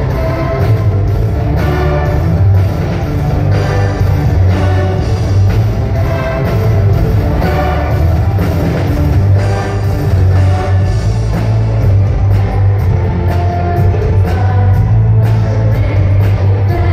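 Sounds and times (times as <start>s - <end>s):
heavy bass line: 0.0s - 16.9s
steady beat: 0.0s - 16.9s.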